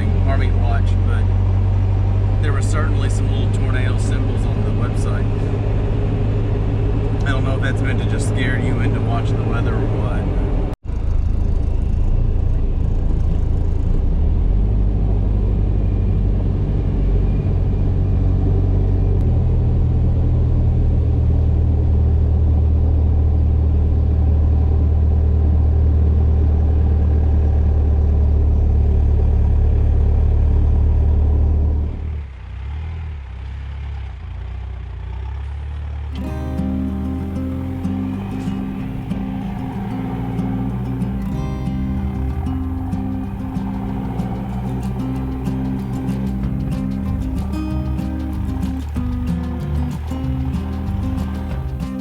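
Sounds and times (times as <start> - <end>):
diesel engine and road drone: 0.0 - 52.0.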